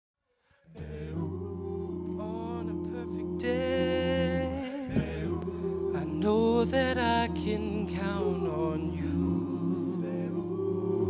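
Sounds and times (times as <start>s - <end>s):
lead voice singing: 0.7s - 11.0s
male a cappella harmony singing: 0.7s - 11.0s.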